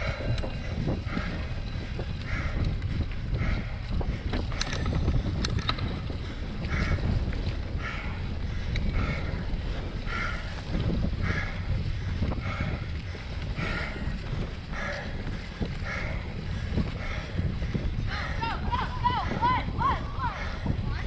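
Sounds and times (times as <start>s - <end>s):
bike clicks and rattles: 0.0s - 18.3s
wind rumbling on microphone: 0.0s - 21.0s.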